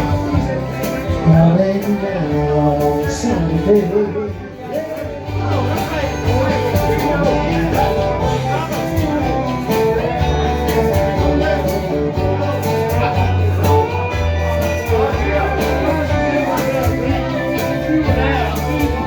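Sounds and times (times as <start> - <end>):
bass line: 0.0 - 19.0
guitar: 0.0 - 19.0
steady drum beat: 0.0 - 19.0.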